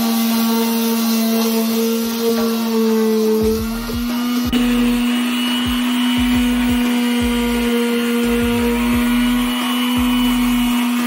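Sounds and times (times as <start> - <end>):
electric sander motor hum: 0.0 - 11.0
sandpaper rasping on wood: 0.0 - 11.0.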